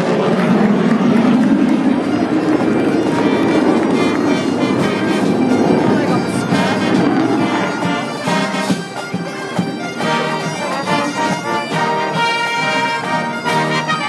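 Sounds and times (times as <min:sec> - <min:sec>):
pipe and brass band playing: 0:00.0 - 0:14.0.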